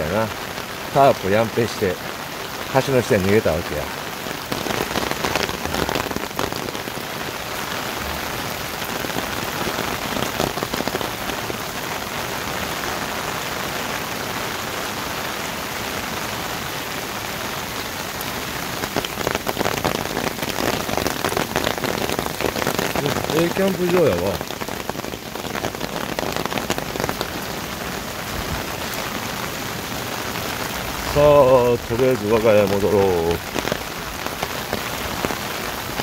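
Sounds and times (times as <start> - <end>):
close rain ticks: 0.0 - 36.0
heavy rain falling: 0.0 - 36.0.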